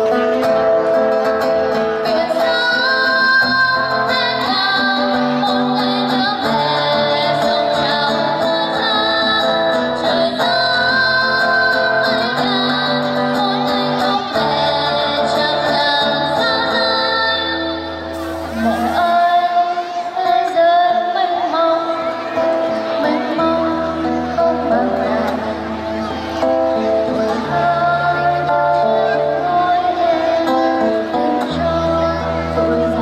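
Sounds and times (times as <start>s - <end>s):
acoustic guitar: 0.0s - 33.0s
woman singing into a microphone: 0.0s - 33.0s.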